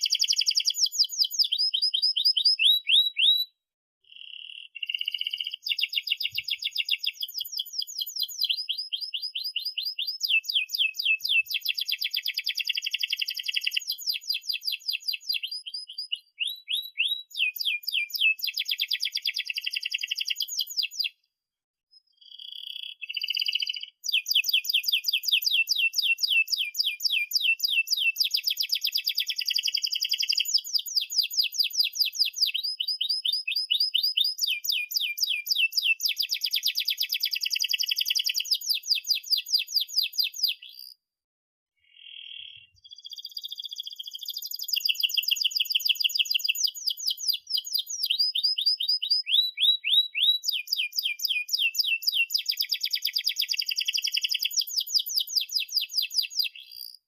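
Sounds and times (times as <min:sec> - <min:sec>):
canary singing trills: 0:00.0 - 0:21.2, 0:21.9 - 0:41.0, 0:41.8 - 0:57.0.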